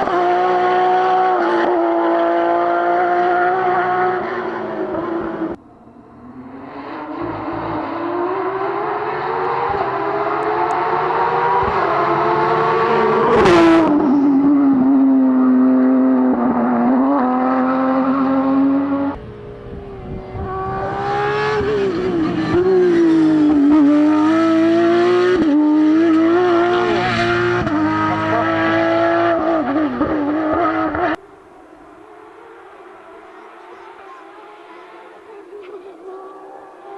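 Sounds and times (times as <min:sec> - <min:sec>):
car engine at full throttle: 0:00.0 - 0:36.9.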